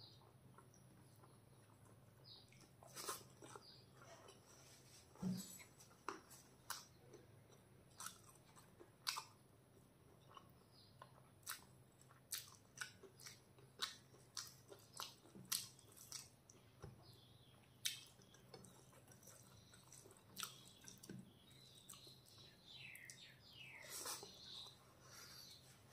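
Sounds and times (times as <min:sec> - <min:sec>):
close-miked chewing with mouth clicks: 0:00.0 - 0:23.3.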